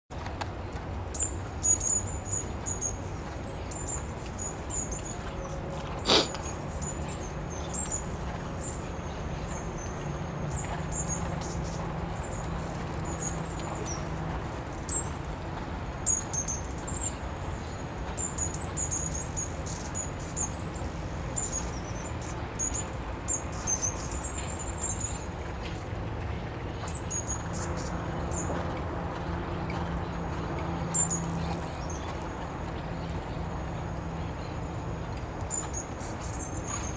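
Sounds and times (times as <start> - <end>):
small birds chirping: 1.1 - 25.8, 26.7 - 36.9.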